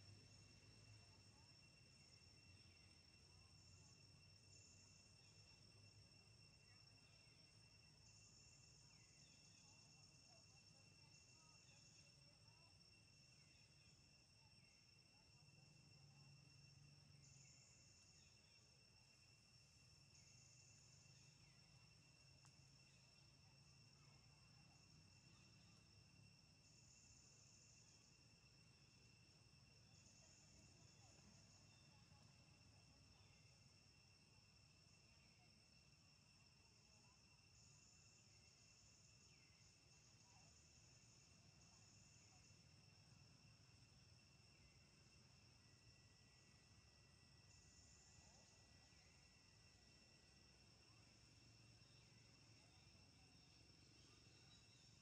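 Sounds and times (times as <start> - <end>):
insect trill: 0.0 - 55.0.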